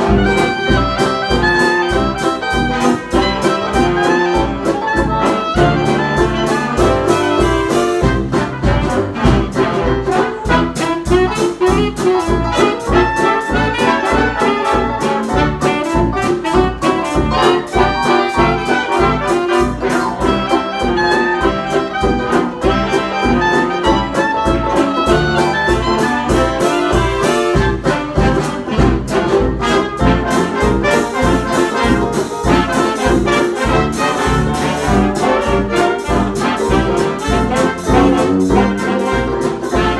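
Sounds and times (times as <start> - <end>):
jazz band playing instrumental: 0.0 - 39.9.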